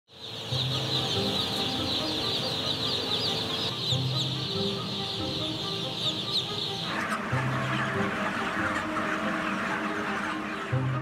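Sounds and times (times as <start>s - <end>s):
baby chicks peeping: 0.1s - 11.0s
low background music: 0.1s - 11.0s.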